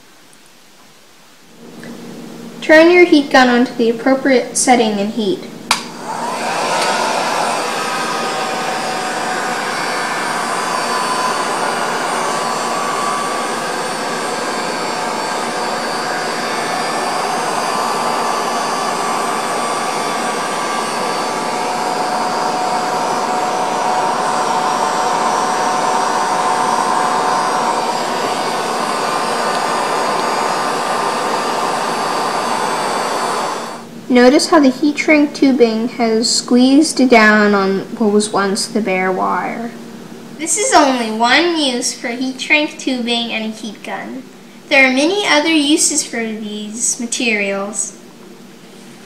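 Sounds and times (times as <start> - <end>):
heat gun fan blowing: 1.4 - 49.0.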